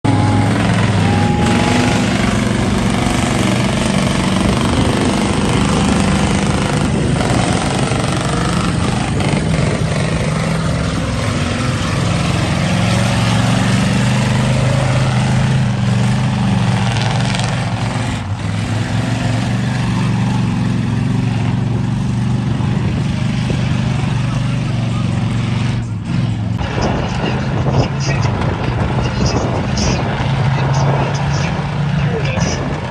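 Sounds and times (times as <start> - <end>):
truck engines churning through mud: 0.0 - 32.9.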